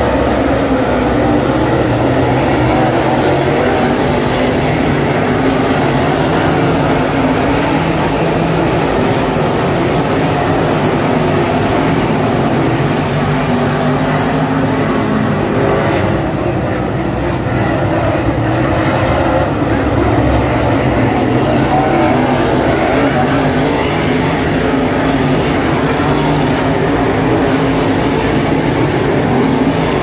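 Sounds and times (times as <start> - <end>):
race car engines at speed: 0.0 - 30.0.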